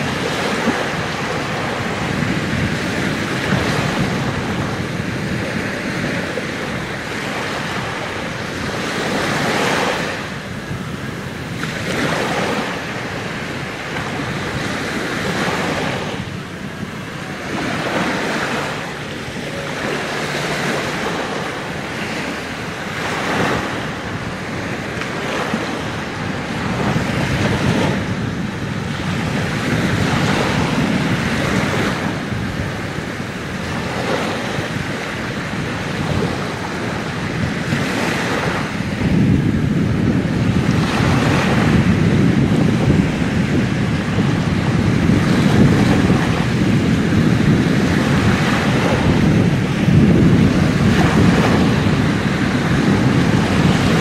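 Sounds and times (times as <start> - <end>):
waves washing on sandy shore: 0.0 - 54.0.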